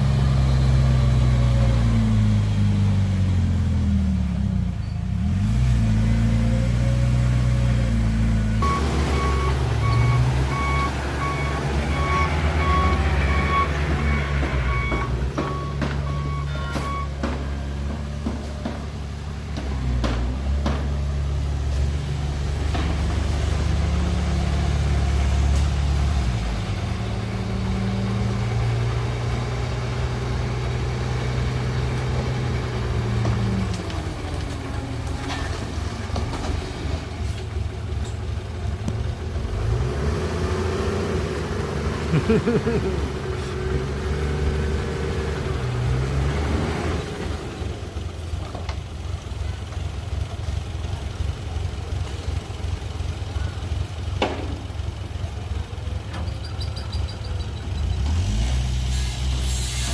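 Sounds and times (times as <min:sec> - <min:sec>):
heavy vehicle engine revving: 0:00.0 - 0:59.9.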